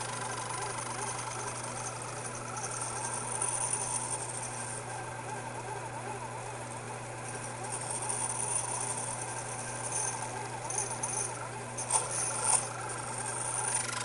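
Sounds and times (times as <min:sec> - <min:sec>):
lathe motor whine: 0:00.0 - 0:14.0.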